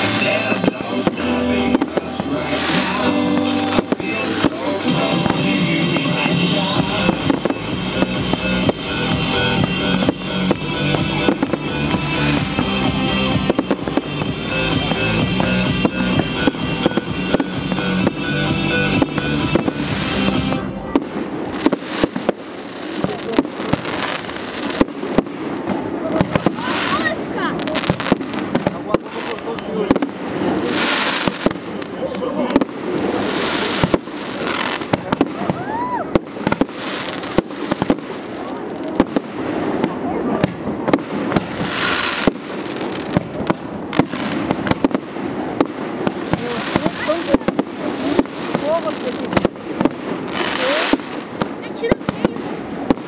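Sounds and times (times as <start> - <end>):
band music: 0.0 - 53.0
fireworks bangs: 0.0 - 53.0
fireworks crackling: 0.0 - 53.0.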